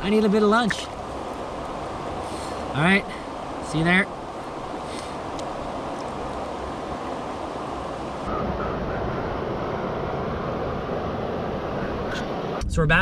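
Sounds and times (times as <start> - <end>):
river water rushing: 0.0 - 12.6.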